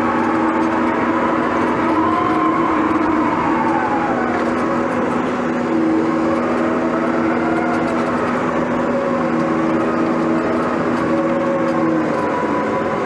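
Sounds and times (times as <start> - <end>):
bulldozer diesel engine droning: 0.0 - 13.0.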